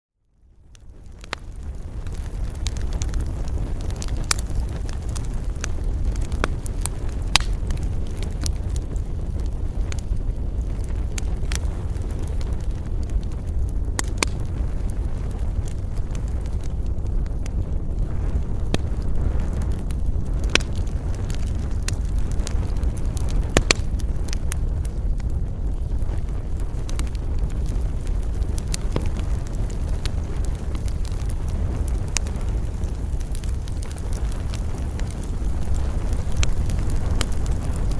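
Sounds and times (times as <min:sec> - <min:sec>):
low rumble of wind: 0:00.2 - 0:37.9
campfire crackling and popping: 0:00.4 - 0:37.9.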